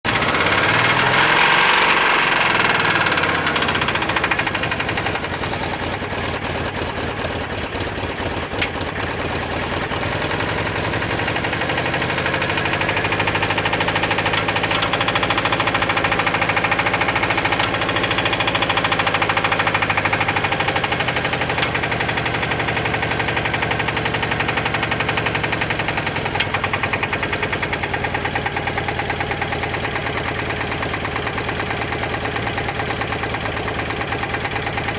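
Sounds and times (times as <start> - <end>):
air-cooled engine running: 0.1 - 34.9.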